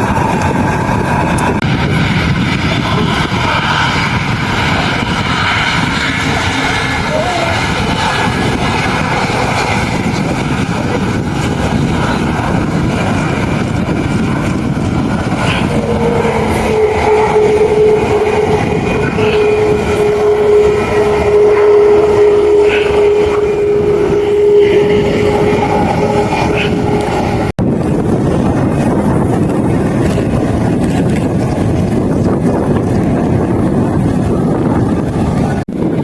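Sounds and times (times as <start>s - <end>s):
steady hum: 0.0s - 35.6s
aircraft engine rush: 0.0s - 36.0s.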